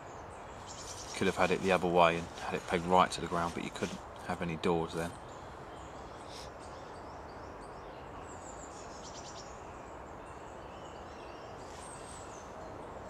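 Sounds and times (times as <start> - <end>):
steady woodland hiss: 0.0 - 13.0.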